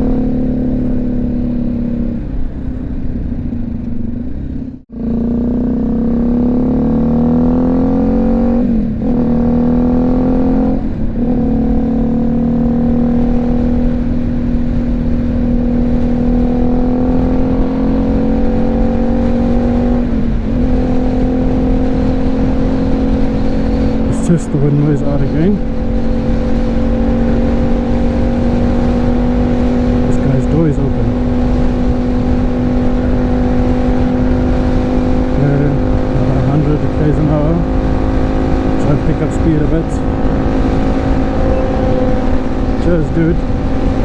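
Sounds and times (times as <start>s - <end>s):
motorcycle engine accelerating: 0.0s - 44.0s
wind noise: 0.0s - 44.0s.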